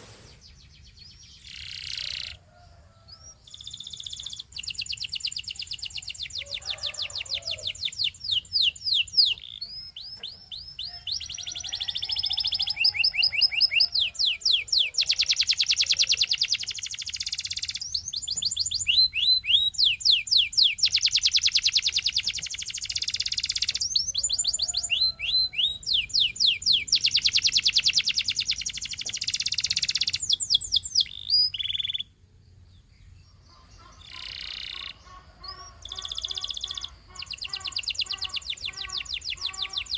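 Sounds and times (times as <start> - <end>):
canary singing trills: 0.2 - 39.9.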